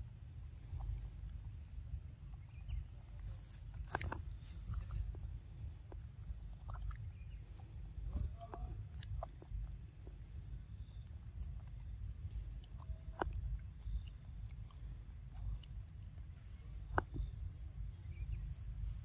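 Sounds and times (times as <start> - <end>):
insect chirping: 0.0 - 19.0
steady low rumble: 0.0 - 19.0.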